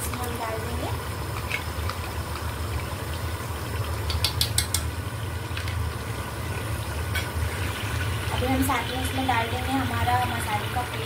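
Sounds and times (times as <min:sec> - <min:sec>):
sauce bubbling and sizzling in oil: 0:00.0 - 0:11.0.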